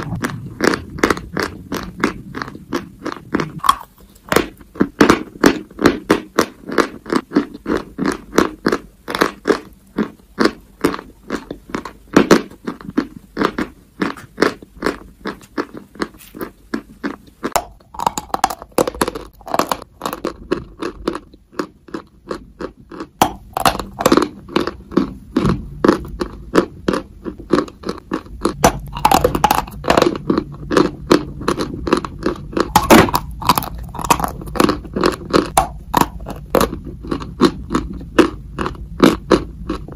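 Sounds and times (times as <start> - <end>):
chewing crunchy chalk: 0.0 - 39.9.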